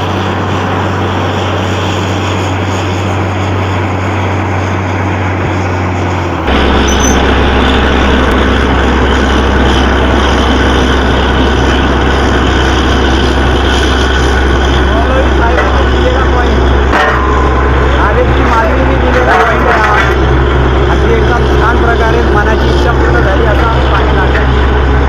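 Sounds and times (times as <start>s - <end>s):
drilling rig mechanical drone: 0.0s - 25.0s.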